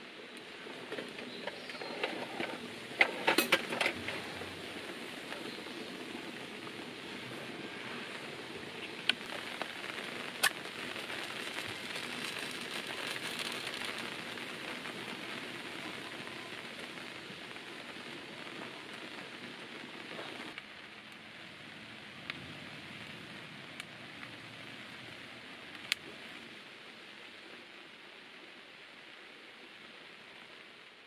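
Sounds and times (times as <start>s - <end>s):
rain hissing: 0.0s - 31.0s.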